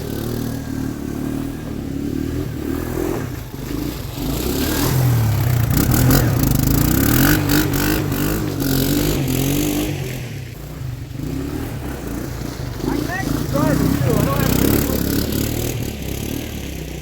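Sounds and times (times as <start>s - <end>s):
three-wheeler engine revving: 0.0s - 17.0s.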